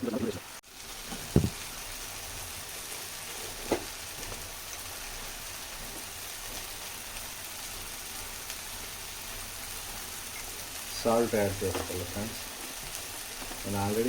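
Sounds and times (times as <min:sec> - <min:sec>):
mixture sizzling in oil: 0:00.0 - 0:14.0.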